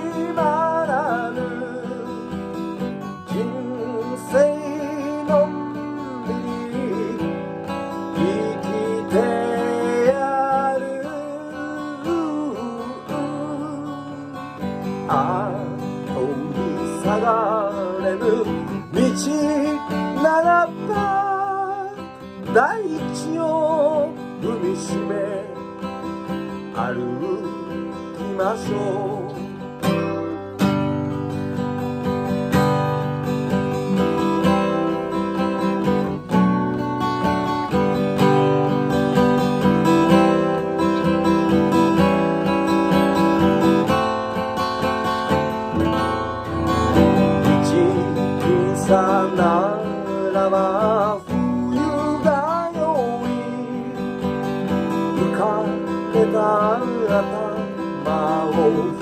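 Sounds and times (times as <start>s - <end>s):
acoustic guitar strummed chords: 0.0s - 59.0s
man singing: 0.0s - 59.0s.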